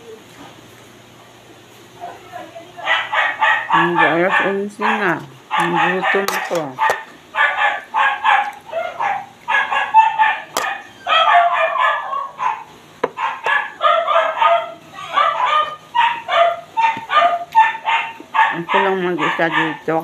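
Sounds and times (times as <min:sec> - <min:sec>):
dog barking: 0:02.8 - 0:19.8.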